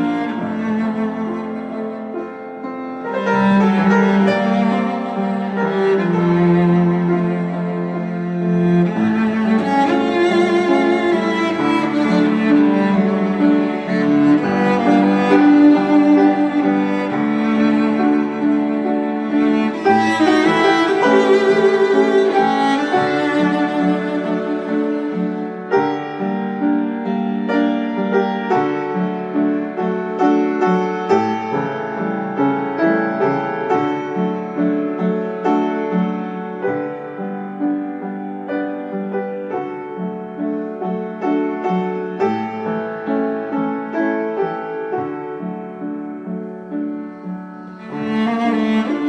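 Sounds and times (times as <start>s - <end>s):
piano music: 0.0s - 49.0s.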